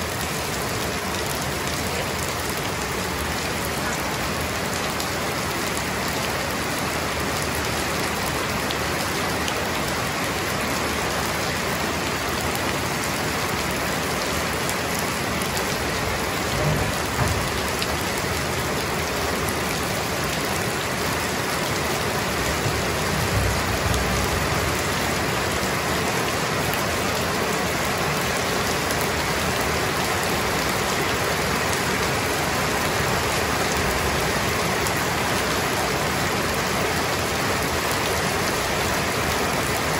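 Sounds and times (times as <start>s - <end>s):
heavy rain on pavement: 0.0s - 39.9s.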